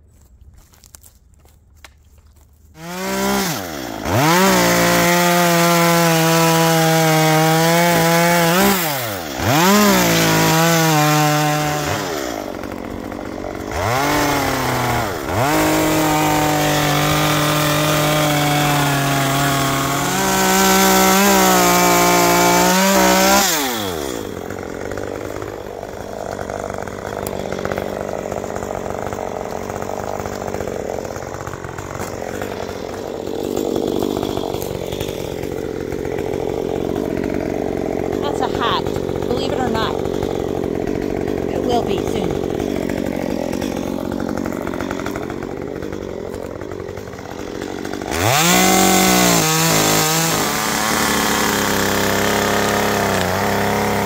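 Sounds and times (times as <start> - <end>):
chainsaw cutting wood: 0.1 - 54.0.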